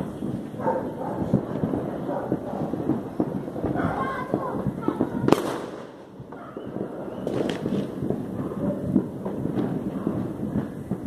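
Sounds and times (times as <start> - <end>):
distant fireworks rumbling: 0.0 - 11.0
loud firework bang: 0.0 - 11.0
sharp firework pops: 0.0 - 11.0.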